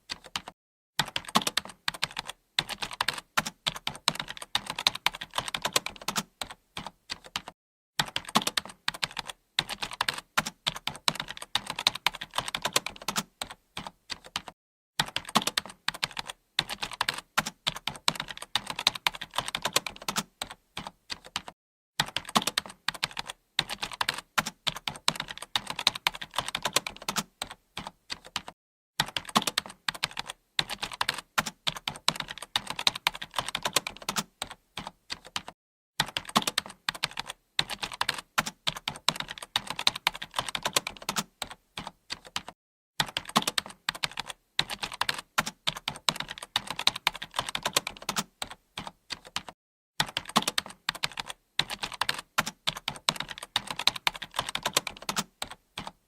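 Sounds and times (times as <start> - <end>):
keyboard typing clicks: 0.0 - 56.0.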